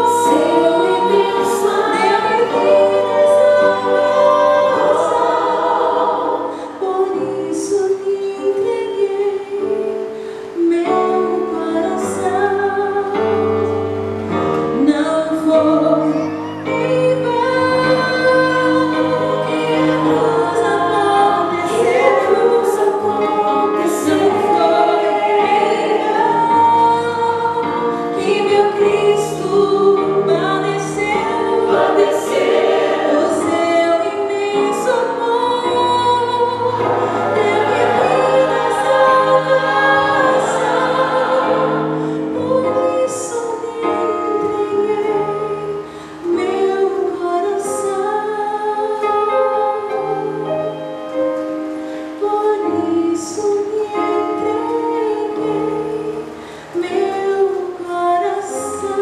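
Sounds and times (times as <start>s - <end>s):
woman singing into microphone: 0.0s - 13.9s, 14.7s - 50.6s, 52.2s - 59.0s
musical accompaniment: 0.0s - 59.0s.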